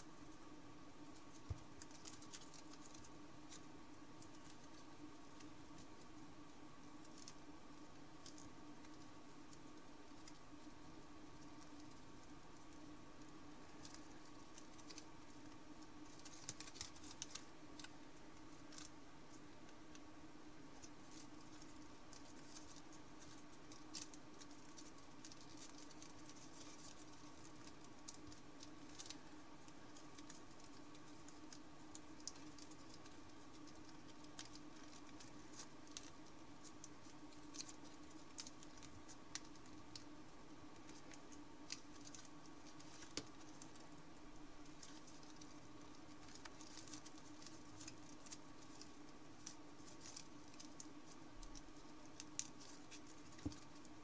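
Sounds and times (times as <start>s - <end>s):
faint hum: 0.0s - 54.0s
paper crinkling and rustling: 1.1s - 6.1s, 12.6s - 20.0s, 20.7s - 40.1s, 40.7s - 54.0s.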